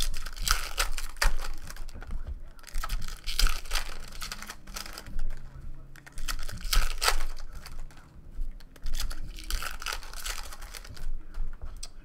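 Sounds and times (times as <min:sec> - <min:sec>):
foil wrapper crinkling: 0:00.0 - 0:11.9.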